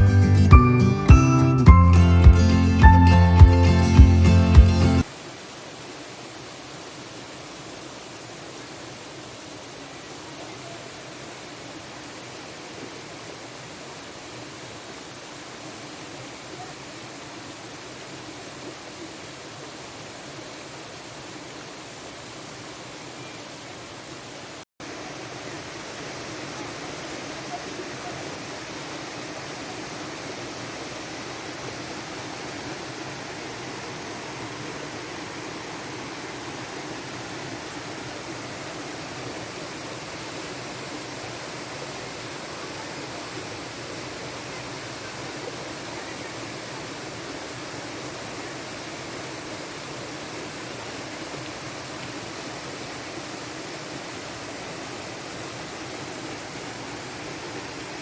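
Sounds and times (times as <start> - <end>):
waterfall rushing: 2.4 - 58.0.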